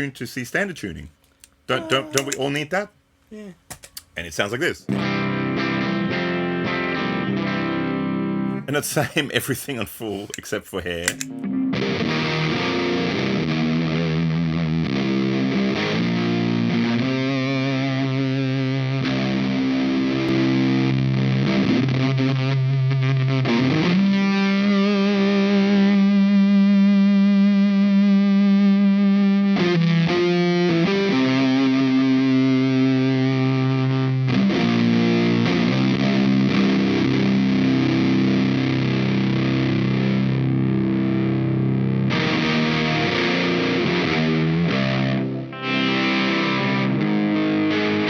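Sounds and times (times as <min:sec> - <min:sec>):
distorted electric guitar riffs: 0:04.9 - 0:08.7, 0:11.0 - 0:48.0.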